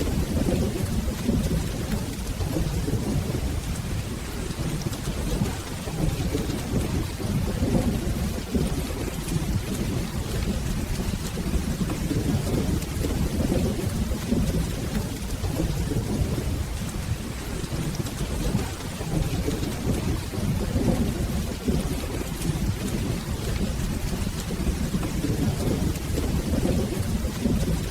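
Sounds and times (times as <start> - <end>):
low rolling thunder: 0.0 - 27.9
steady rain: 0.0 - 27.9.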